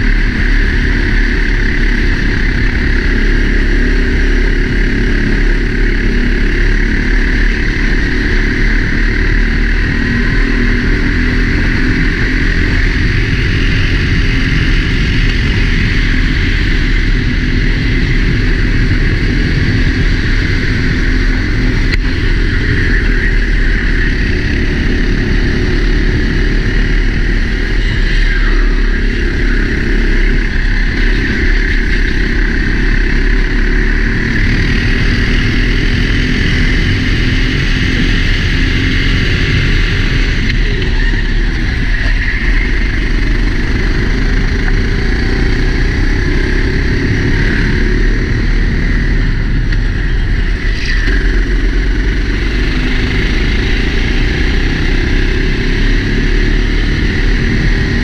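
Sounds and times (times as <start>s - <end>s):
kart engine running: 0.0s - 58.0s
wind noise: 0.0s - 58.0s.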